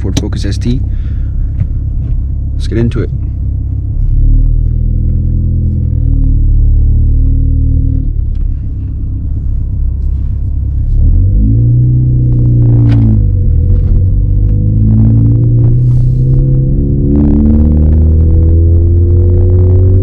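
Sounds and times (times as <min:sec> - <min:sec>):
car engine low drone: 0:00.0 - 0:20.0.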